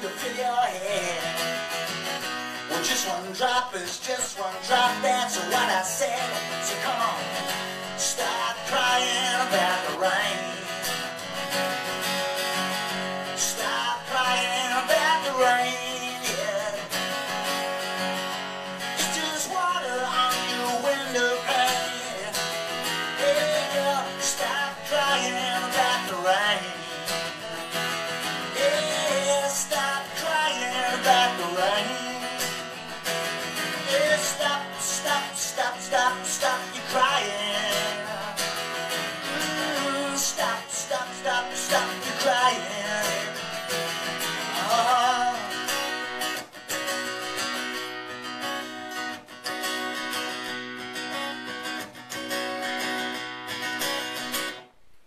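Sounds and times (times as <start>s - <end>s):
acoustic guitar strumming: 0.0s - 54.8s.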